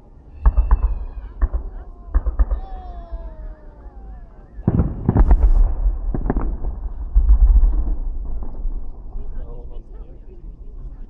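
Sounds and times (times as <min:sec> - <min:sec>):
continuous low rumble: 0:00.0 - 0:11.0
firework bangs: 0:00.3 - 0:09.4.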